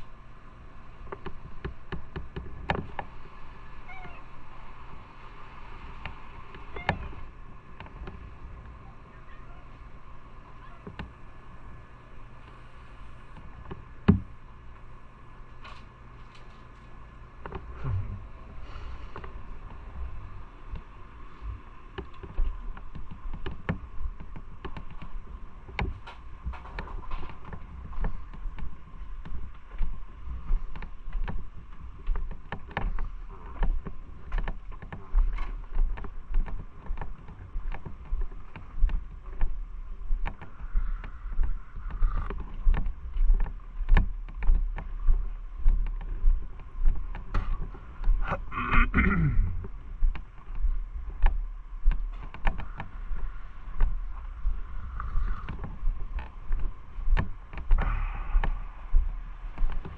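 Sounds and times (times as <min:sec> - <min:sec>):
motorcycle engine and wind rumble: 0:00.0 - 0:12.5, 0:13.1 - 0:48.5, 0:49.4 - 0:59.9.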